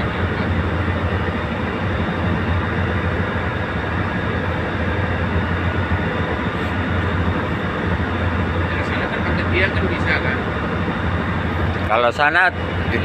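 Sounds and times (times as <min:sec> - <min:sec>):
boat engine humming: 0:00.0 - 0:13.0
rush of wind and water: 0:00.0 - 0:13.0.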